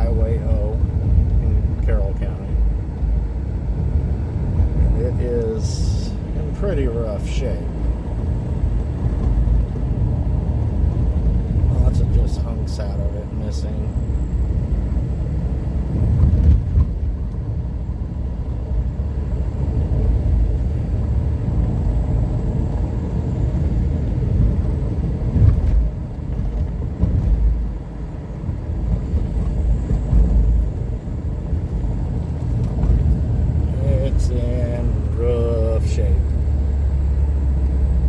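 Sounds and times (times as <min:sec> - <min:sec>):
car jolting on rough road: 0:00.0 - 0:38.0
car tyres and engine rumbling: 0:00.0 - 0:38.0.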